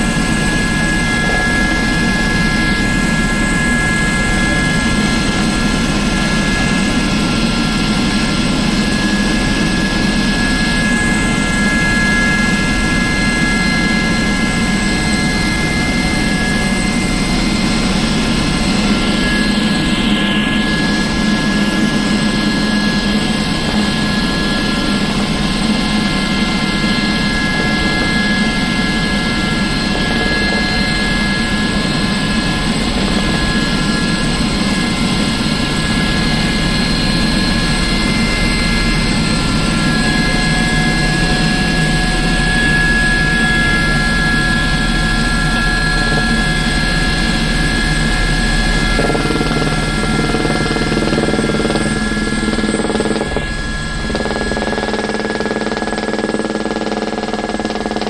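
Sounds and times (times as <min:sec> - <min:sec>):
helicopter rotor rumble: 0:00.0 - 0:58.0
helicopter turbine whine: 0:00.0 - 0:58.0.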